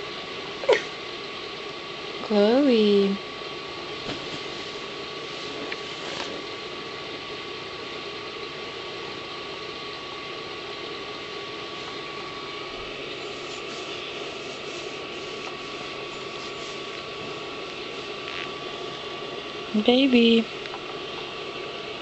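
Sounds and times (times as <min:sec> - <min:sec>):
faint high whine: 0:00.0 - 0:22.0
mechanical hum: 0:00.0 - 0:22.0.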